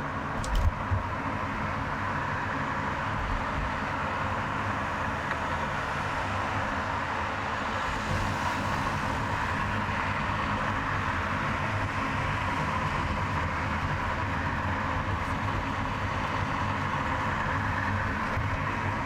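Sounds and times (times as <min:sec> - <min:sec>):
low engine and road rumble: 0:00.0 - 0:19.0.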